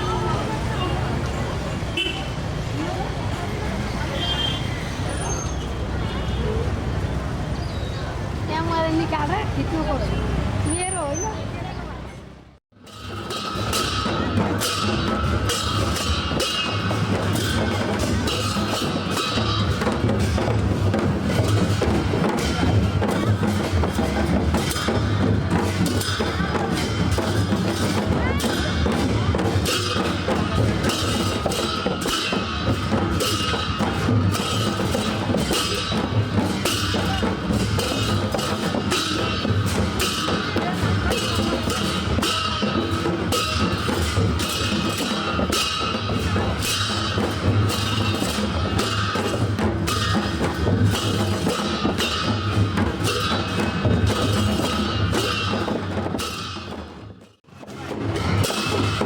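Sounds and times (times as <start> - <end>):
drums and percussion playing: 0.0 - 59.0.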